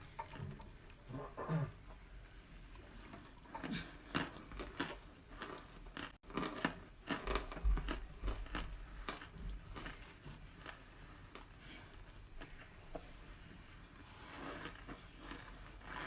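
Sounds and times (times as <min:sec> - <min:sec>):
crunching and chewing: 0:00.0 - 0:16.0.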